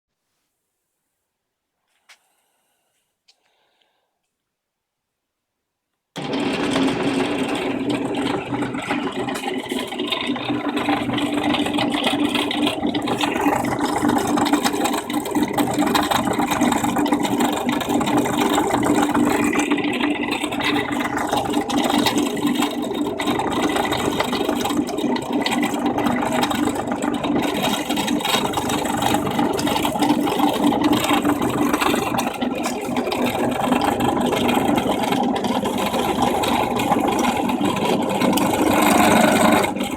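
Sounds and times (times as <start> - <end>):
drill press drilling wood: 6.2 - 39.9.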